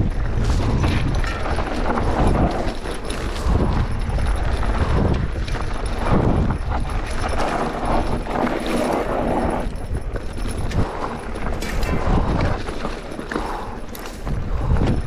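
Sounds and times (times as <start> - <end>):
bike rattling over bumps: 0.0 - 15.0
wind rumbling on microphone: 0.0 - 15.0.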